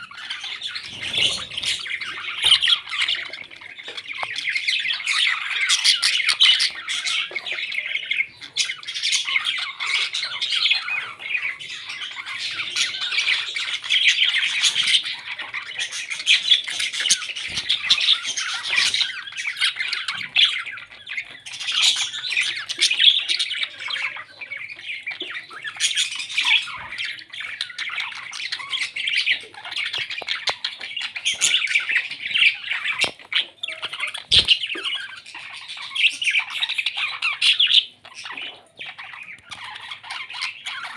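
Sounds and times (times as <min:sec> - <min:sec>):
parrots chattering and squawking: 0:00.0 - 0:40.9.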